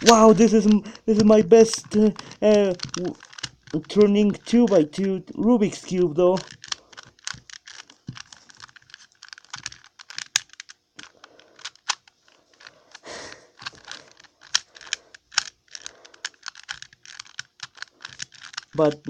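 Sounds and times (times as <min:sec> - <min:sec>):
puzzle cube plastic clicks: 0:00.0 - 0:19.0.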